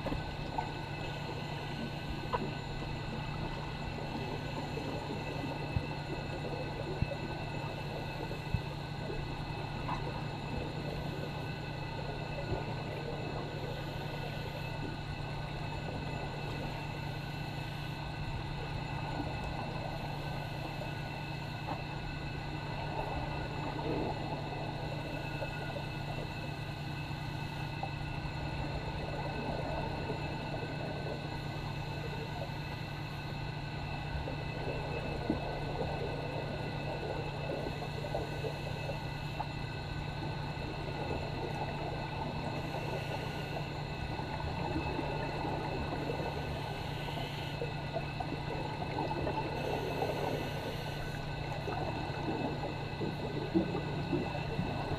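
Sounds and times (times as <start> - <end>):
underwater pool machinery hum: 0.0 - 54.9.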